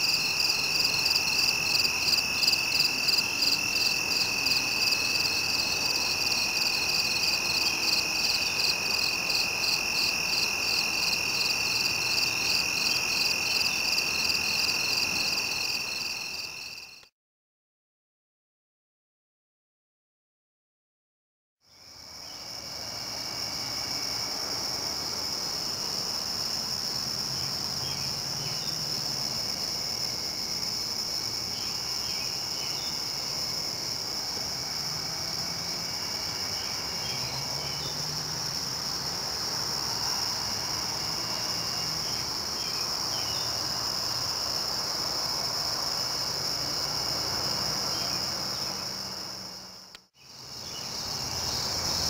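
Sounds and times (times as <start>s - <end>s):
crickets trilling: 0.0s - 17.0s, 21.7s - 52.0s
faint insect chirps: 0.0s - 17.1s, 21.7s - 52.0s.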